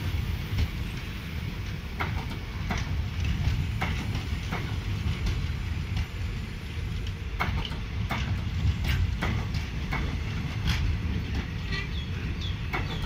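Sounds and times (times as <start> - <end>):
train wheels rumbling on rail: 0.0 - 13.0
wheels clacking over rail joints: 0.4 - 6.2, 6.8 - 13.0.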